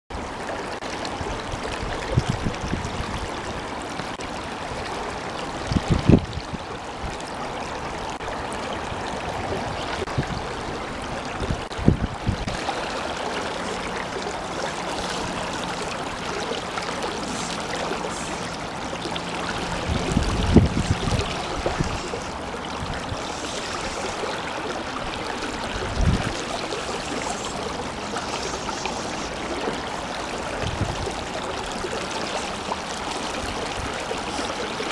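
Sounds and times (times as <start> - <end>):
stream rushing over gravel: 0.1 - 34.9.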